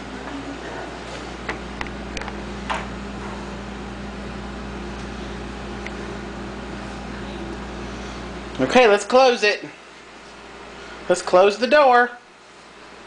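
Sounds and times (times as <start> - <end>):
refrigerator low hum: 0.0 - 13.0.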